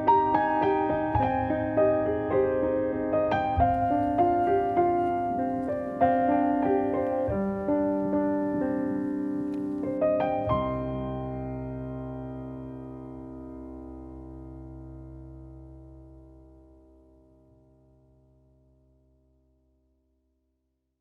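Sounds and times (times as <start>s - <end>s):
slow solo piano piece: 0.0s - 19.4s.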